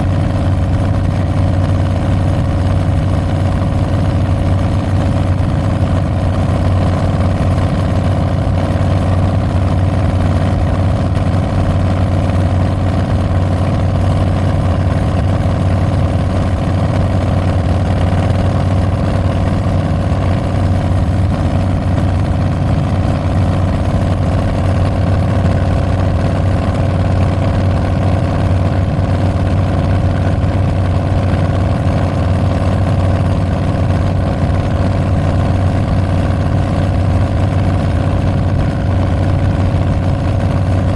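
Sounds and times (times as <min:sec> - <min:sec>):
motorcycle engine deep exhaust: 0:00.0 - 0:40.9.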